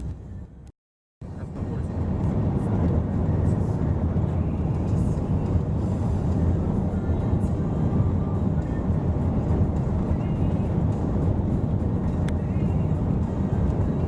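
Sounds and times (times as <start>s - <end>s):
car driving on highway: 0.0s - 14.0s.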